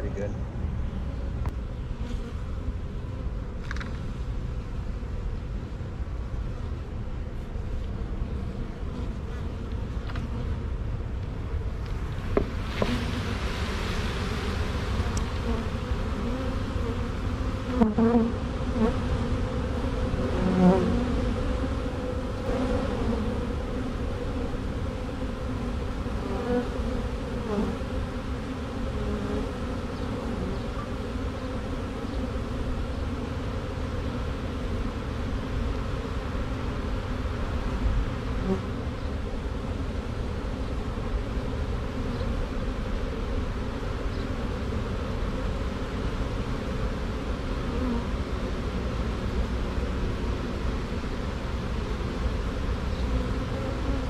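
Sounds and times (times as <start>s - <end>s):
bees flying past: 0.0s - 54.0s
honey bee swarm buzzing: 6.3s - 54.0s.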